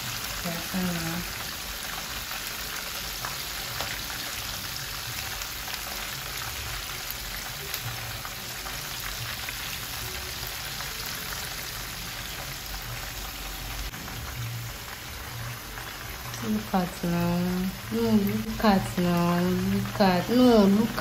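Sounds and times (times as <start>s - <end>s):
fish deep-frying in oil: 0.0s - 21.0s.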